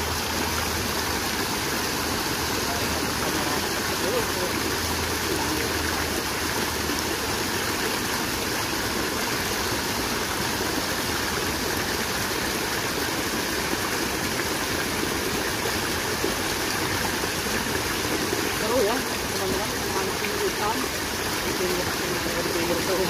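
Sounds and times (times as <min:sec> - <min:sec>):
stream rushing and splashing: 0:00.0 - 0:23.0.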